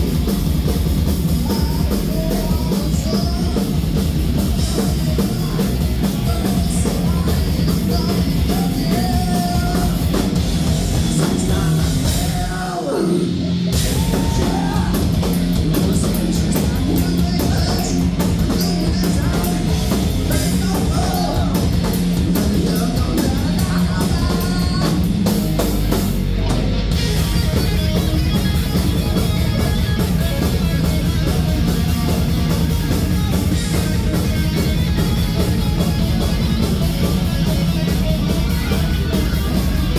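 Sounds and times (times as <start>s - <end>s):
heavy metal band playing: 0.0s - 39.9s.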